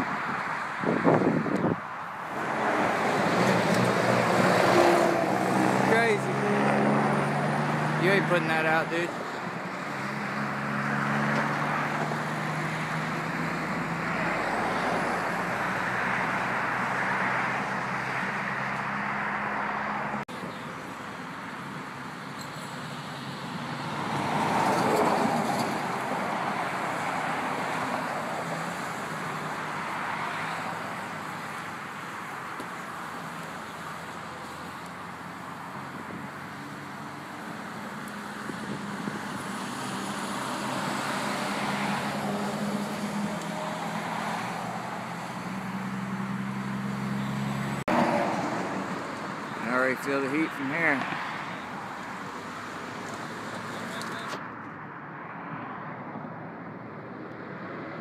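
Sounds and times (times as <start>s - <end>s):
passing cars: 0.0s - 58.0s.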